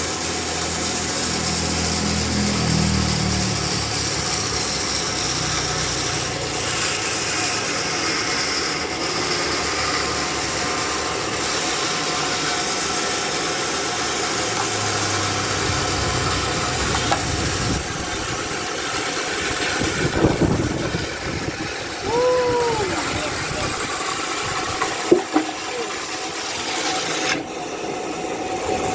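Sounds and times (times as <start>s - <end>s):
band sawmill running: 0.0s - 28.9s.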